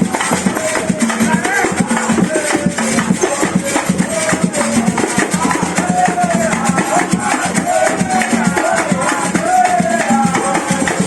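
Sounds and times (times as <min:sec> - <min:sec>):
drums and shakers beat: 0:00.0 - 0:11.0.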